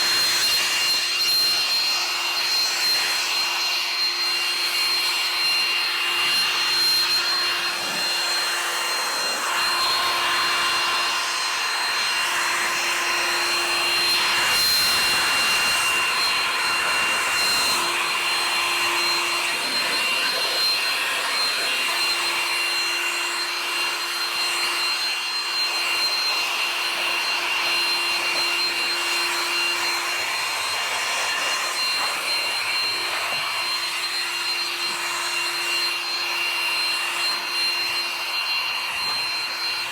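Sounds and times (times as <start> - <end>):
power tool rubbing surface: 0.0 - 39.9.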